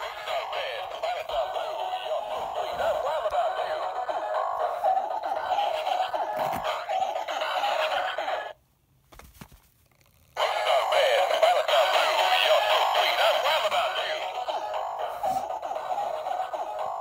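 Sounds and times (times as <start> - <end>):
toy playing tinny electronic song: 0.0 - 8.6, 10.4 - 17.0.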